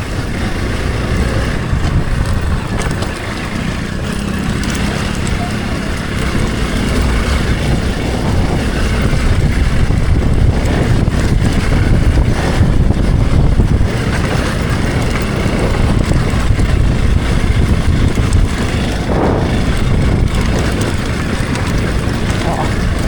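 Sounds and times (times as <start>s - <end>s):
motorcycle engine under load: 0.0s - 23.0s.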